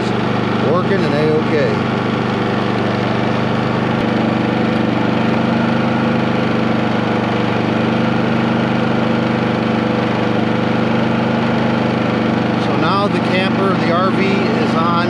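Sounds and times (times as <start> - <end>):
generator engine drone: 0.0 - 15.0.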